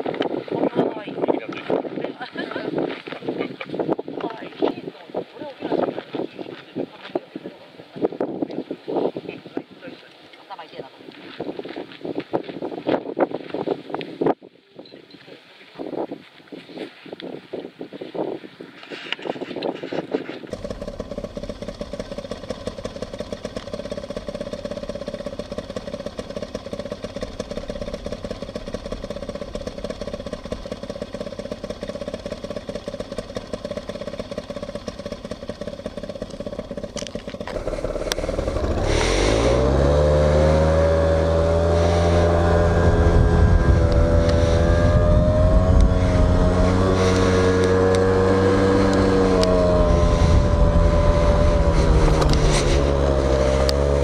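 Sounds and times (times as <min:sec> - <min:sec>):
motorcycle engine running: 0:00.0 - 0:09.7, 0:19.1 - 0:54.0.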